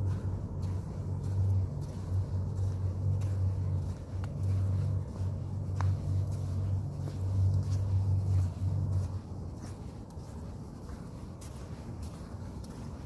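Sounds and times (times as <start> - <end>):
footsteps on wet sand: 0.0 - 13.0
low droning rumble: 0.0 - 13.0.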